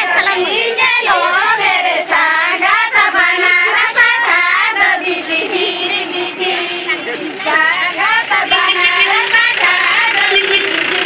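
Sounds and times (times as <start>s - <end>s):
women singing in high voices: 0.0s - 11.0s.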